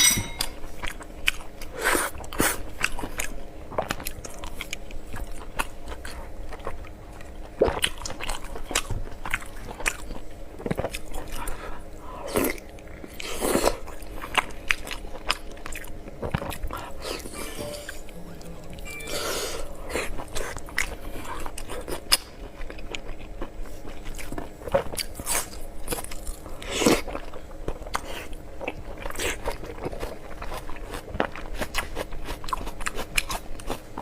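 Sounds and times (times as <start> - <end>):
chewing and biting food: 0.7 - 17.5, 19.8 - 34.0.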